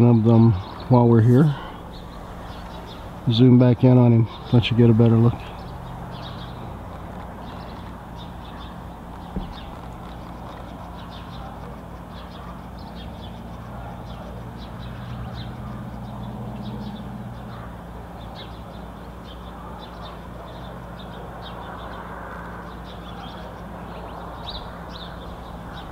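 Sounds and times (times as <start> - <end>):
low mechanical hum: 0.0 - 25.9
small birds chirping: 0.0 - 25.9.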